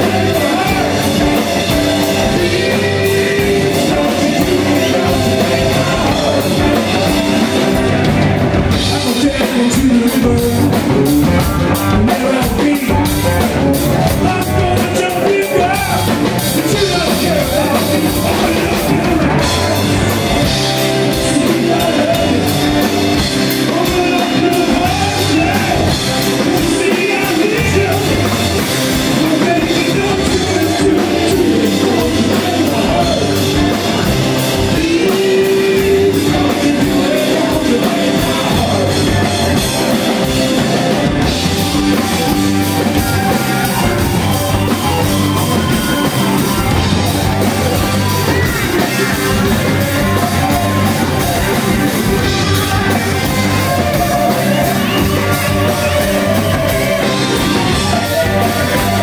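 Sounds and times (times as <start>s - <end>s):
drum kit: 0.0s - 59.0s
electric guitars: 0.0s - 59.0s
live rock band playing: 0.0s - 59.0s.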